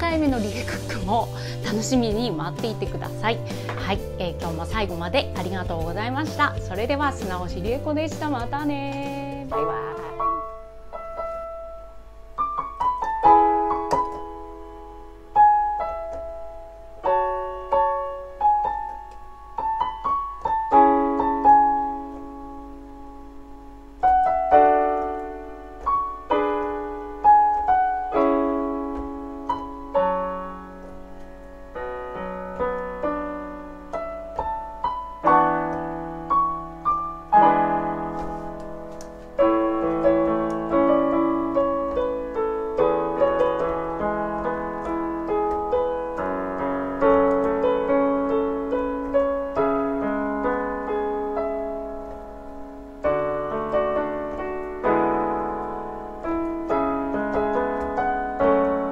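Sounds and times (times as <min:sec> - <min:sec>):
solo digital piano: 0:00.0 - 0:58.9.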